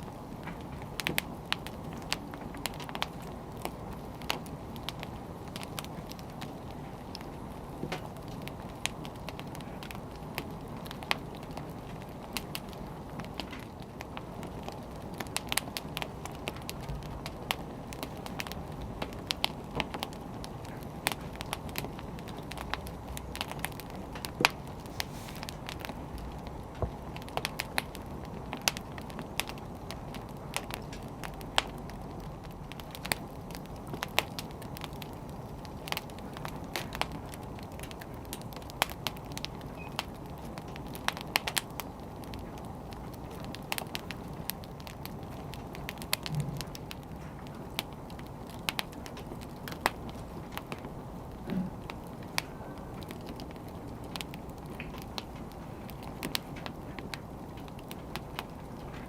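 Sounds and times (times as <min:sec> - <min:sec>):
burning logs crackling and popping: 0:00.0 - 0:59.0
low rush of flames: 0:00.0 - 0:59.0.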